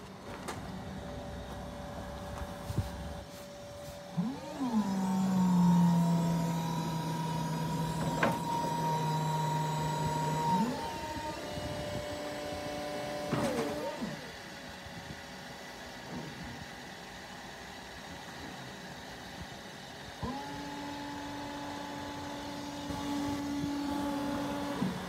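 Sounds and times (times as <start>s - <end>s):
hydraulic pump motor whining: 0.4s - 15.2s, 19.6s - 25.0s.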